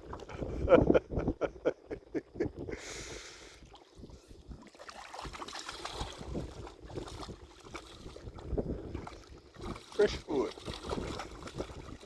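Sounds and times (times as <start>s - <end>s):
wind on microphone: 0.0s - 4.6s, 5.2s - 12.0s
water sloshing and lapping: 0.0s - 12.0s.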